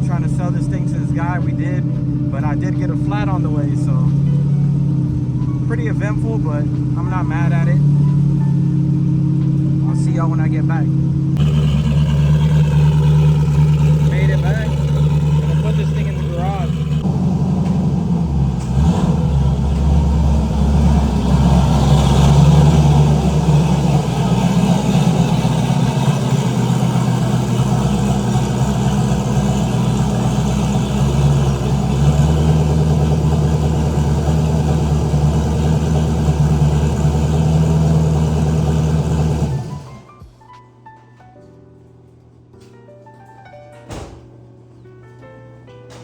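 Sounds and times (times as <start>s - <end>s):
car engine rumbling: 0.0s - 40.4s.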